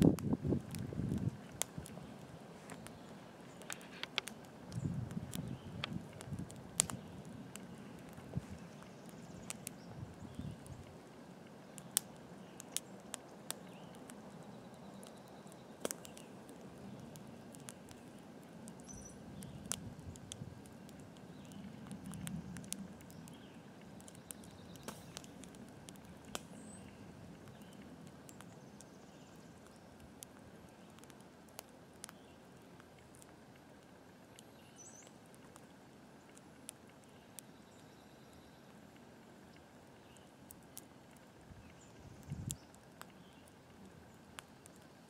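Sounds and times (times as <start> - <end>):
fire popping and snapping: 0.0 - 45.0
wood fire crackling: 0.0 - 45.0.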